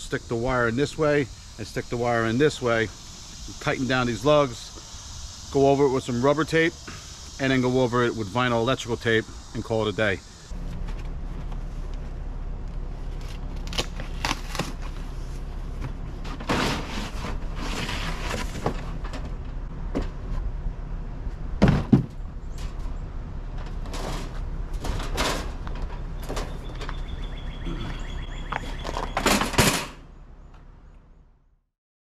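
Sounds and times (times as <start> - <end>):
steady low hum: 0.0 - 28.4.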